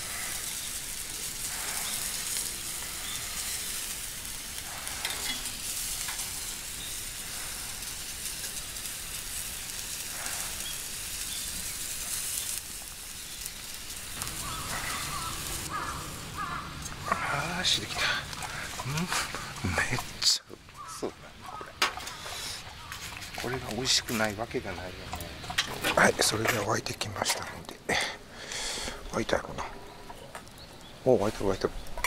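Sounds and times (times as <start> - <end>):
faint crackles: 0.0 - 32.0
sausage sizzling over charcoal: 0.0 - 32.0.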